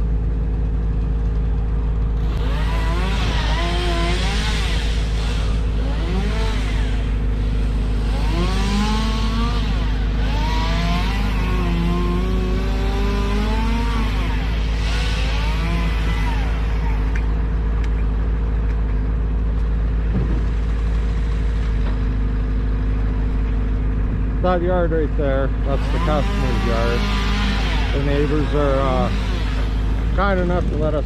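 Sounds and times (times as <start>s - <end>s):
large engine running: 0.0s - 31.0s
small engine revving: 1.5s - 18.8s, 23.2s - 31.0s.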